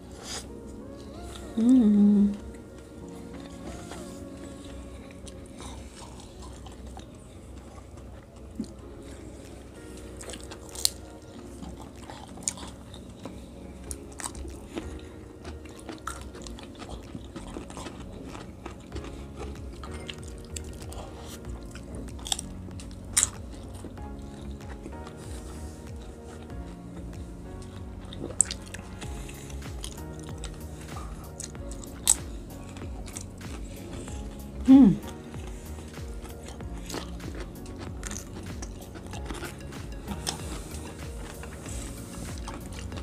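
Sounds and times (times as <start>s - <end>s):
chewing crispy spring rolls: 0.0s - 43.0s
soft background music: 0.0s - 43.0s.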